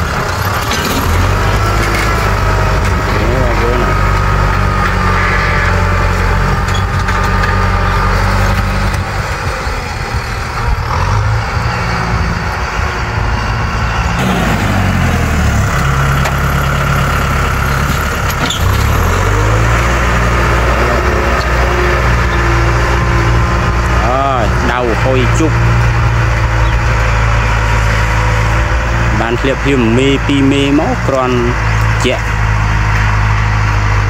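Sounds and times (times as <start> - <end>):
tractor engine under load: 0.0 - 34.0.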